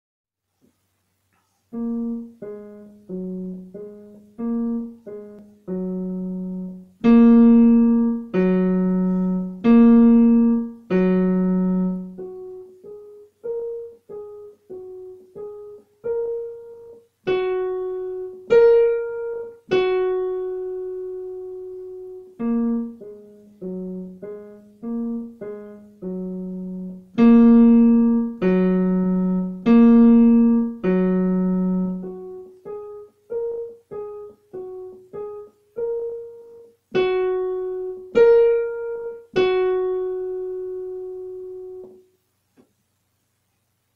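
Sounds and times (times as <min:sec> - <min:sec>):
digital piano playing chords and notes: 0:01.7 - 0:42.1.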